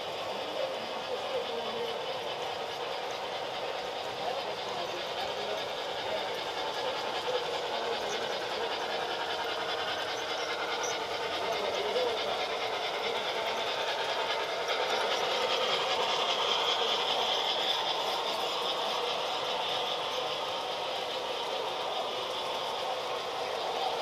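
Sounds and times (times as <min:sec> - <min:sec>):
model train rattling on track: 0:00.0 - 0:24.0.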